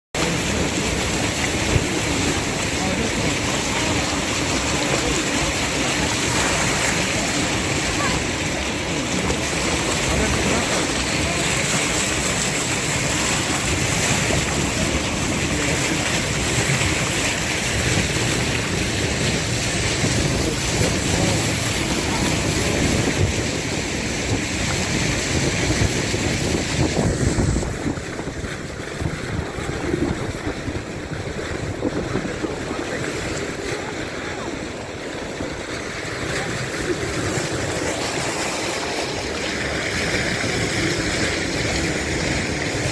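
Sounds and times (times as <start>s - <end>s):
water rushing past boat: 0.2s - 42.9s
wind buffeting microphone: 0.2s - 42.9s.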